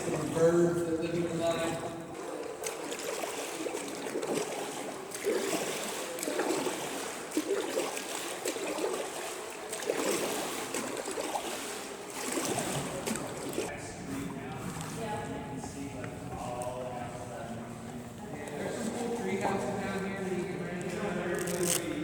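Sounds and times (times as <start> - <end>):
paddles splashing water: 0.0 - 22.0.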